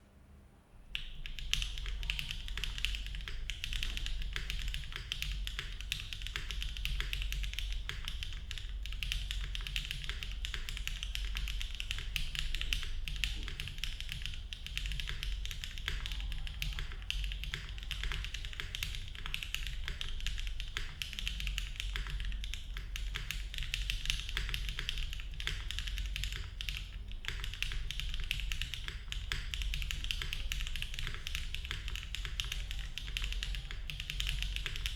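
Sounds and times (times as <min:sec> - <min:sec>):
typing on a mechanical keyboard: 0:00.9 - 0:34.9.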